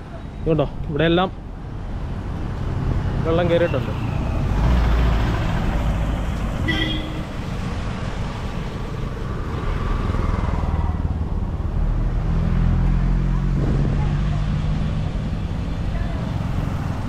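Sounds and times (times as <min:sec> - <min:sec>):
traffic rumbling past: 0:00.0 - 0:17.0.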